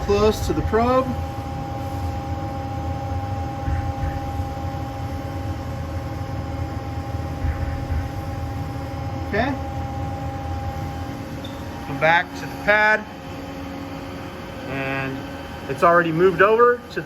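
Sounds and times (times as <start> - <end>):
lathe machine hum: 0.0 - 17.0
thin whine: 0.0 - 17.0.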